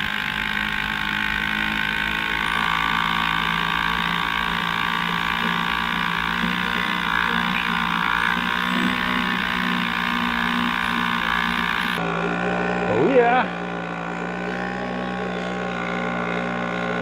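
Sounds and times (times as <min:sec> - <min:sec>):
two-stroke moped engine running: 0:00.0 - 0:17.0.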